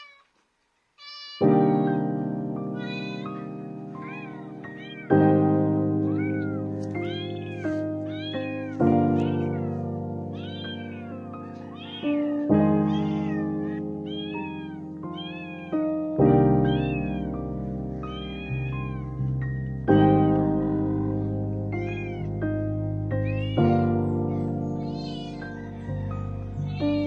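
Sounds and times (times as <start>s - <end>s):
kitten meowing: 0.0s - 0.3s, 1.0s - 2.1s, 2.8s - 9.8s, 10.4s - 27.0s
piano music: 1.4s - 27.0s.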